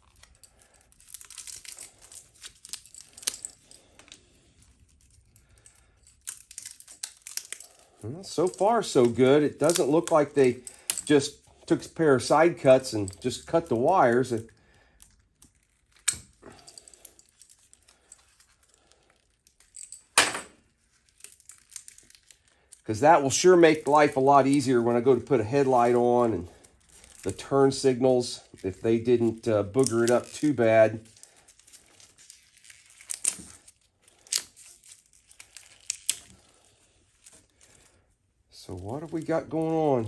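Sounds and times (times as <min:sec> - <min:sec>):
tape crinkling and tearing: 0:00.0 - 0:20.0, 0:20.6 - 0:40.0.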